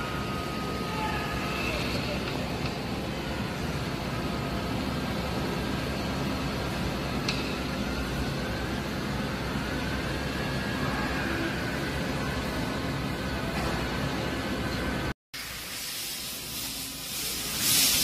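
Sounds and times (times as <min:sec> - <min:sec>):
faint machine whine: 0:00.0 - 0:15.8
boring mill mechanical hum: 0:00.0 - 0:18.0.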